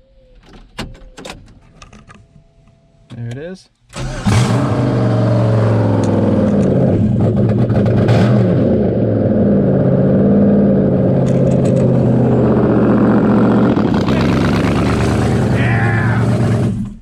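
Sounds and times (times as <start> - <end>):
car engine starting and running: 3.2 - 17.0.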